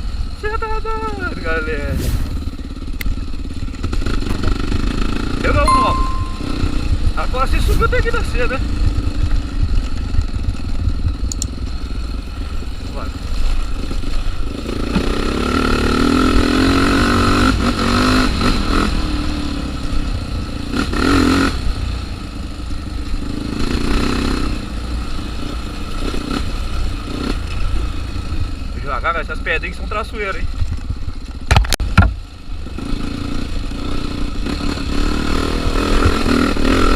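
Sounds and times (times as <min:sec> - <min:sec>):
off-road motorcycle engine: 0:00.0 - 0:36.9.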